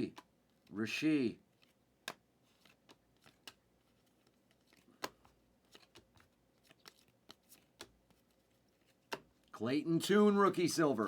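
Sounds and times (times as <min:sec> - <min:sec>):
trading cards being handled: 0:00.0 - 0:00.8, 0:01.4 - 0:09.6.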